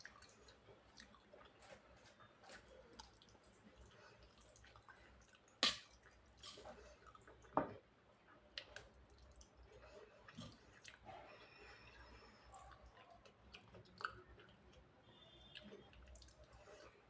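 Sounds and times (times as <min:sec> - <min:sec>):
wet chewing and squishing: 0:00.0 - 0:07.5, 0:08.5 - 0:17.0.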